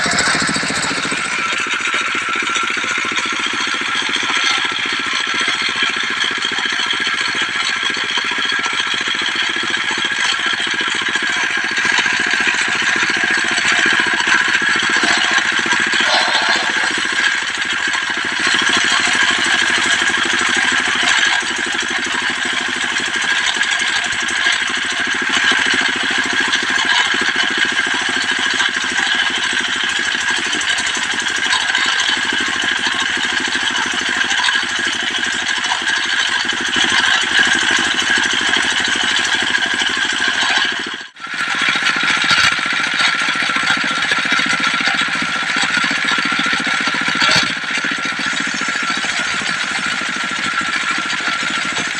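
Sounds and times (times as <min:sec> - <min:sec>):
diesel engine running: 0:00.0 - 0:51.9
sawmill blade cutting log: 0:00.0 - 0:51.9.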